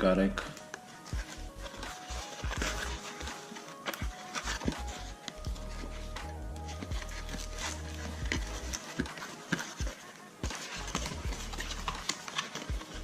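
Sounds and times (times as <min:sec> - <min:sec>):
quiet background music: 0:00.0 - 0:13.0
clicks and rustles of packaging: 0:00.4 - 0:13.0.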